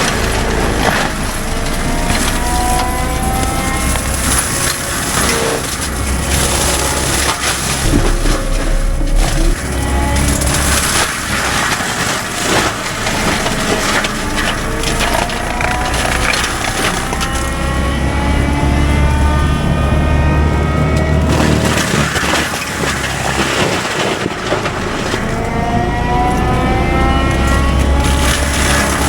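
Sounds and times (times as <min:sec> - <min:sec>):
heavy engine droning under load: 0:00.0 - 0:29.0
mulcher drum whine: 0:00.0 - 0:29.0.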